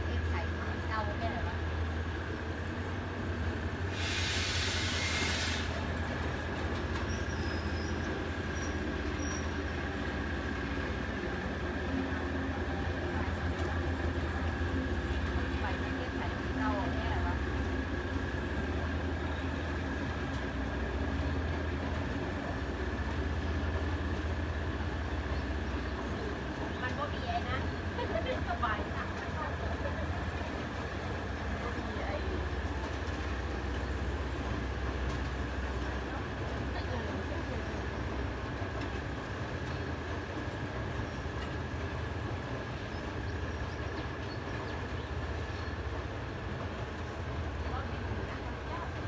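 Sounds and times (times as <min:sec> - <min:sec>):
train rumbling over viaduct: 0:00.0 - 0:49.0.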